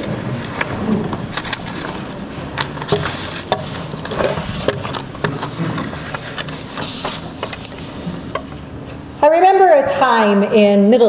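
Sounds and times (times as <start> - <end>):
people rustling and shuffling: 0.0 - 9.1.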